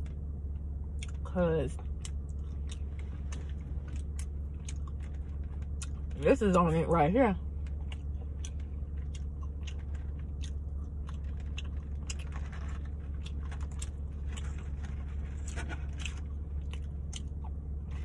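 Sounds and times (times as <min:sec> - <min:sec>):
steady low hum: 0:00.0 - 0:18.0
chewing with mouth clicks: 0:00.9 - 0:06.2, 0:07.6 - 0:18.0.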